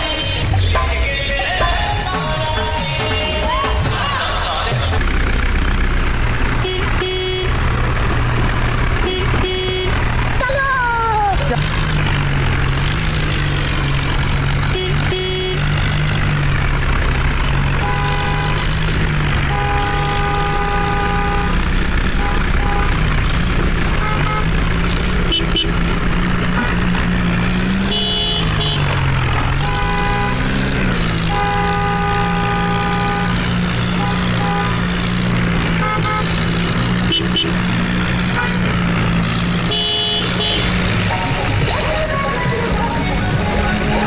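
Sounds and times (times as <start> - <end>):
heavy diesel engine running: 0.0 - 44.0
long horn toots: 1.6 - 44.0.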